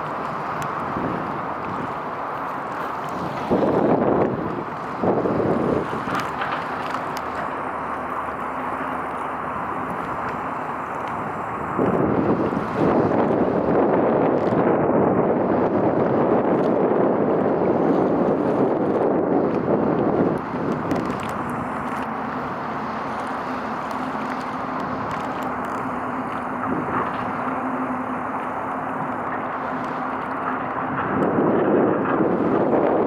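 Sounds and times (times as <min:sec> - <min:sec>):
outdoor rumble: 0:00.0 - 0:33.0
wind buffeting microphone: 0:00.0 - 0:33.0.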